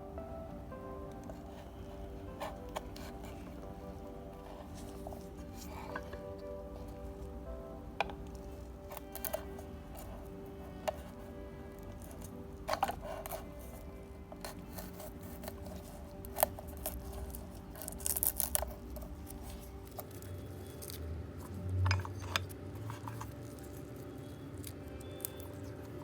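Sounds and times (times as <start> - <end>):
faint background music: 0.0 - 26.0
small utensils clicking and scraping: 1.2 - 7.4, 8.0 - 26.0.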